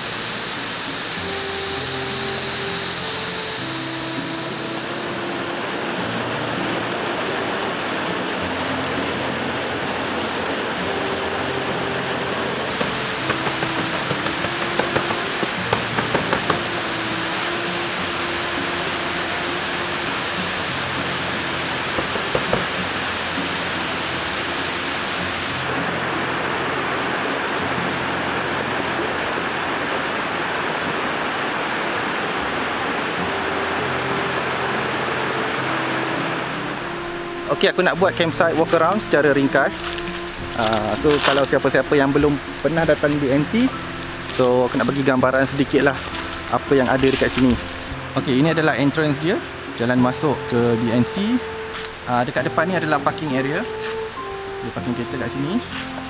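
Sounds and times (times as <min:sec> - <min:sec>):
stream and waterfall rushing: 0:00.0 - 0:56.0.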